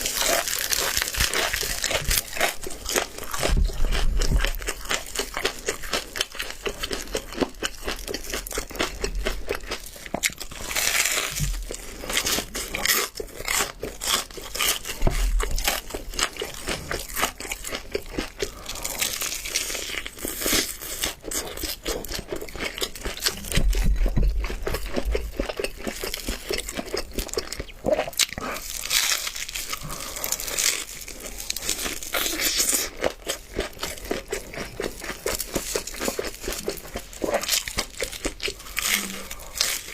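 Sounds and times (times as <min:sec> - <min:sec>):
crispy chicken being chewed: 0:00.0 - 0:39.9.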